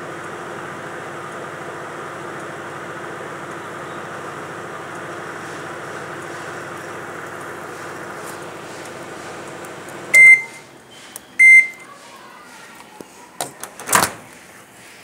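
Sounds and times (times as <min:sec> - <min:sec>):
microwave oven running: 0:00.0 - 0:12.8.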